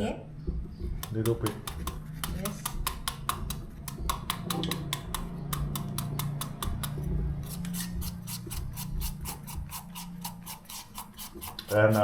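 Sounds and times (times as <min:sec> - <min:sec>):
knife cutting papaya: 0:00.9 - 0:12.0.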